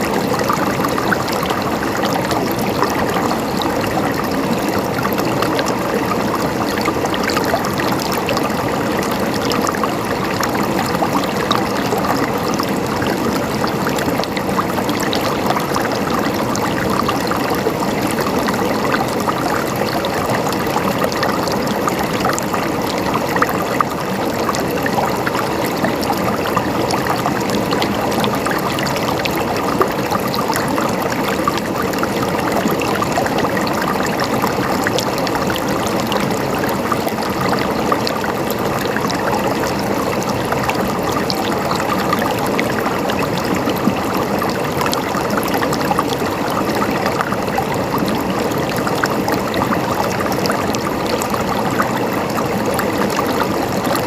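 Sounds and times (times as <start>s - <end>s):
running water gurgling: 0.0s - 54.0s.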